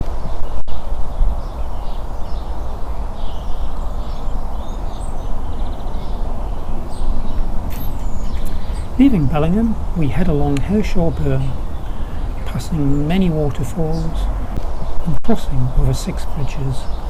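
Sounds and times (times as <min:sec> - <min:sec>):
low rumbling noise: 0:00.0 - 0:17.0
small birds chirping: 0:00.1 - 0:17.0.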